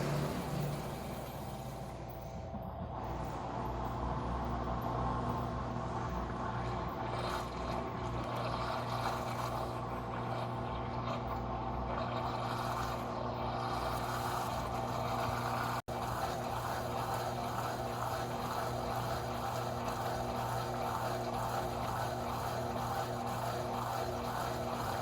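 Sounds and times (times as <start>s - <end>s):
washing machine churning: 0.0s - 25.0s.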